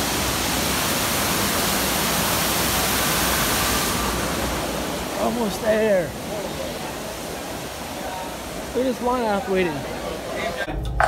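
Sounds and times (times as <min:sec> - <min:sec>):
waterfall rushing: 0:00.0 - 0:10.7.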